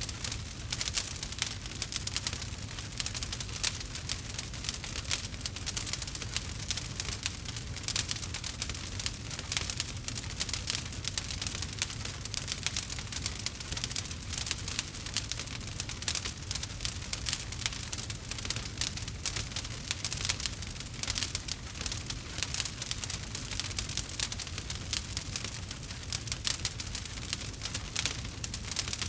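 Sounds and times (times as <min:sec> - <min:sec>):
campfire crackling and popping: 0:00.0 - 0:29.0
low steady fire rumble: 0:00.0 - 0:29.0.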